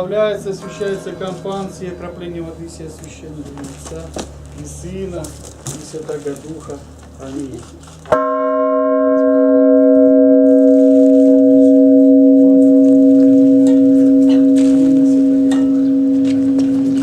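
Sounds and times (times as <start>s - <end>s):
church bell ringing: 0.0s - 4.9s, 8.1s - 17.0s.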